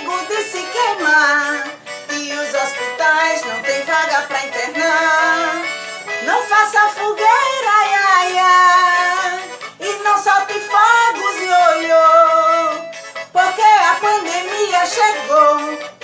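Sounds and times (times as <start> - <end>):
musical accompaniment: 0.0 - 16.0
person singing: 0.0 - 16.0.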